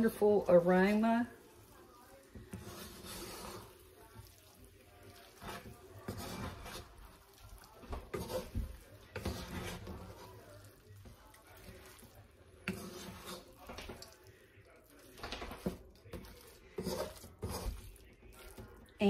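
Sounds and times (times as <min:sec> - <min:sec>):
wooden spoon scraping skillet: 0:00.0 - 0:19.0.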